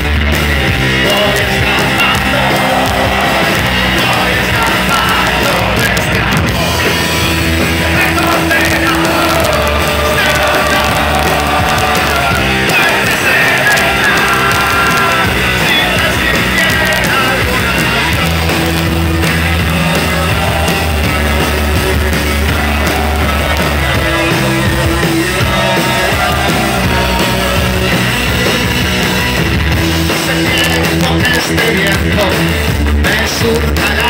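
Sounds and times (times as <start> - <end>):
live rock band playing: 0.0 - 34.0
long held bass notes: 0.0 - 34.0.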